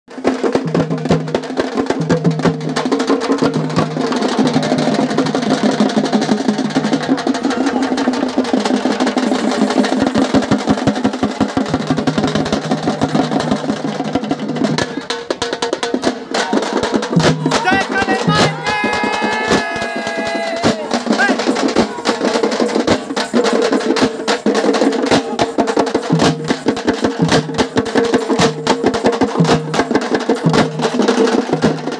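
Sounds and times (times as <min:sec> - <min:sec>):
drums beaten fast in a roll: 0:00.1 - 0:31.9.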